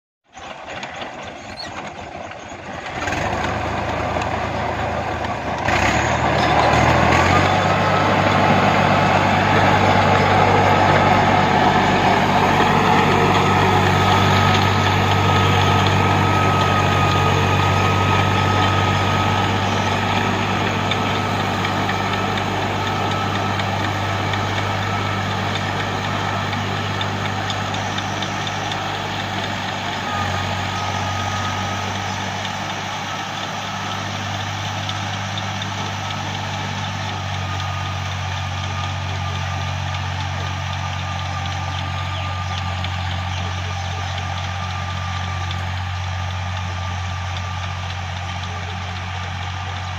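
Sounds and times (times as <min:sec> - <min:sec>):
engine knock: 0:00.3 - 0:49.9
tractor diesel engine running: 0:00.3 - 0:49.9
steady high whine: 0:04.2 - 0:49.9.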